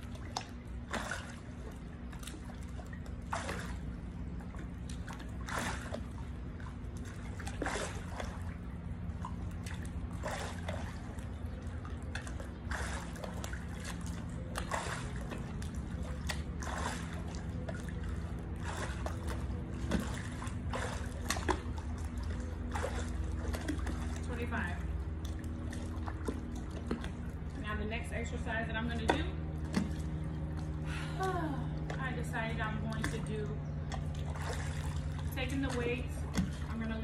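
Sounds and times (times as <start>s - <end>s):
pool water sloshing and splashing: 0.0s - 37.0s
steady low hum: 0.0s - 37.0s.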